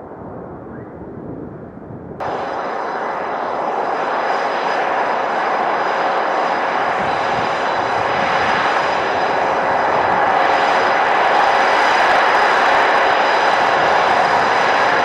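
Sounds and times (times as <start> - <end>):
jet engines taxiing: 2.2 - 15.0.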